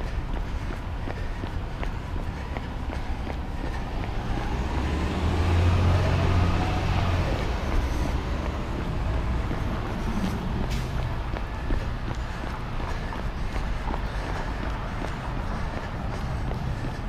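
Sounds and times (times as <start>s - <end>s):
traffic noise: 0.0s - 17.0s
vehicle passing: 0.0s - 17.0s.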